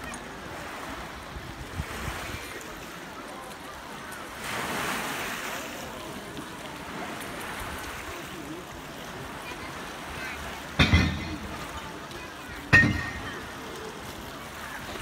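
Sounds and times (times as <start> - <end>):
waves washing onto pebble beach: 0.0 - 15.0.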